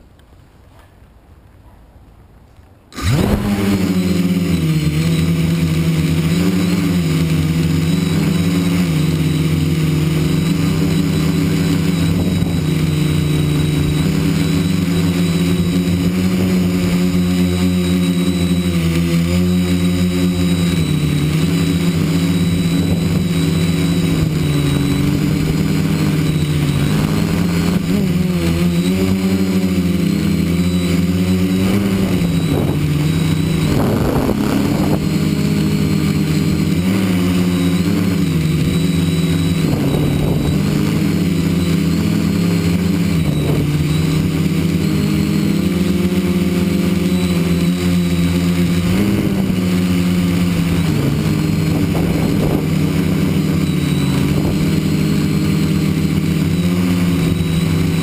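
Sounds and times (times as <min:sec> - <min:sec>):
drone propellers buzzing: 0:02.9 - 0:58.0.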